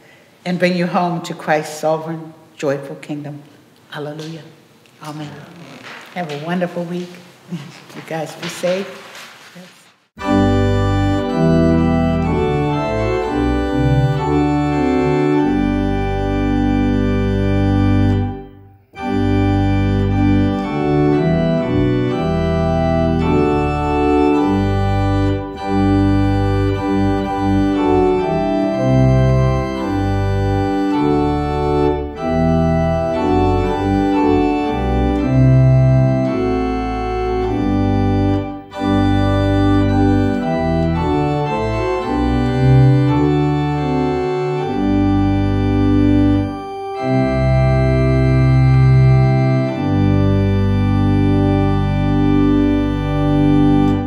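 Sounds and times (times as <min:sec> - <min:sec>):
organ music: 0:10.1 - 0:54.0.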